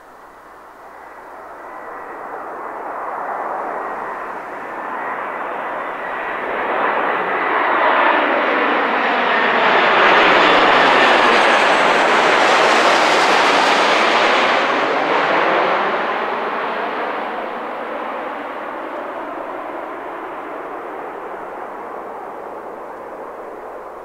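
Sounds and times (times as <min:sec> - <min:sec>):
jet airliner flying overhead: 0:00.0 - 0:24.0.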